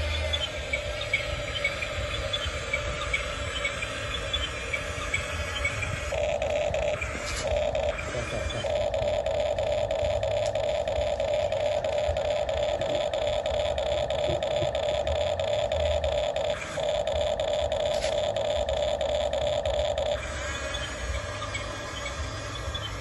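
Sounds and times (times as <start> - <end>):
model excavator motor whine: 0.0 - 23.0.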